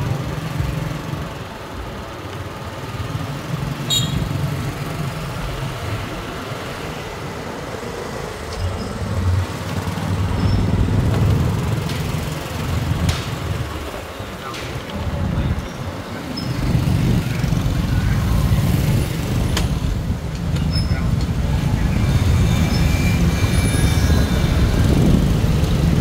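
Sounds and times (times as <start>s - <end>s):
traffic engines running: 0.0s - 26.0s.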